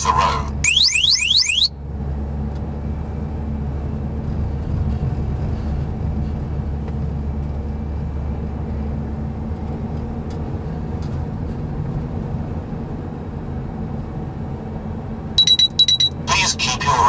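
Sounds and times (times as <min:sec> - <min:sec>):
van engine and road noise: 0:00.0 - 0:17.0.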